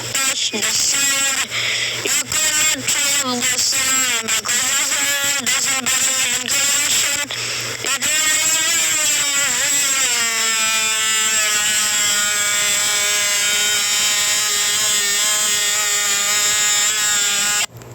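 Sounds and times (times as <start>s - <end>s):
loud buzzing tone: 0.0s - 17.7s.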